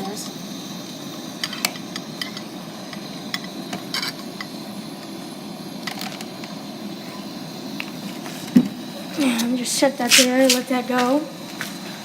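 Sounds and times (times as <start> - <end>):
gas burner running: 0.0 - 12.0.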